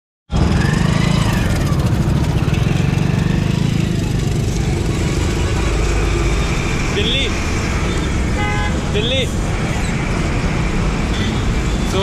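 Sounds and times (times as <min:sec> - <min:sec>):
high vehicle whine: 0:00.3 - 0:12.0
traffic engine rumble: 0:00.3 - 0:12.0.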